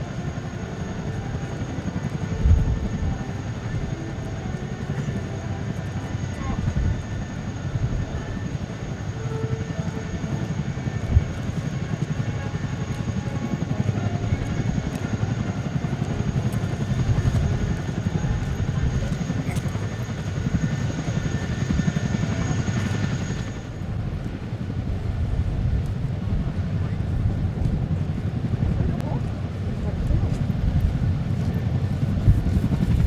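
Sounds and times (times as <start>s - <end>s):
jet aircraft engines rumbling: 0.0s - 33.0s.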